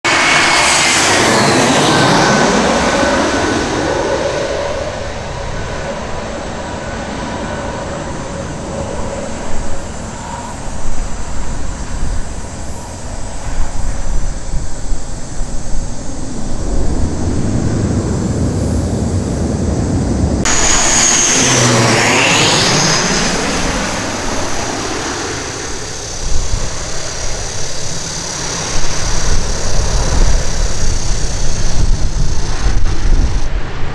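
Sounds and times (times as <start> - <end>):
jet engines whining and rumbling: 0.0 - 33.9
turboprop propeller drone: 0.0 - 33.9.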